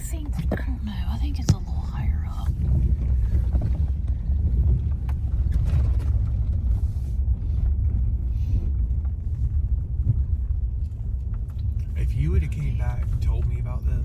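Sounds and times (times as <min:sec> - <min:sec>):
car driving with engine rumble: 0:00.0 - 0:14.0.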